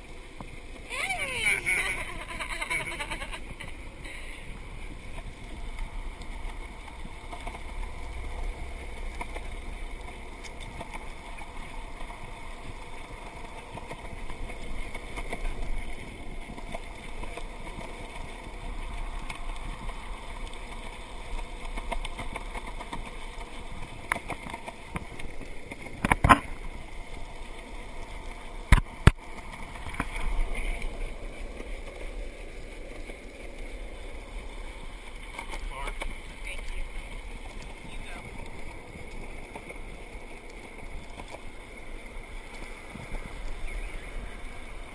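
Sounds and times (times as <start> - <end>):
water gurgling along hull: 0.0 - 44.9.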